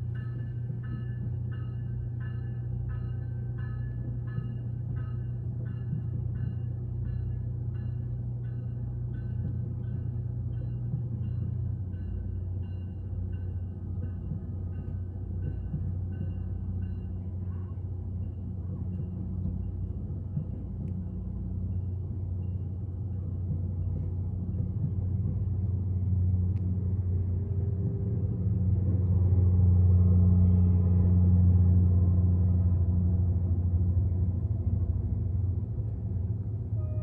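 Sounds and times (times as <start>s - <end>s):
diesel locomotive engine rumbling: 0.0s - 37.0s.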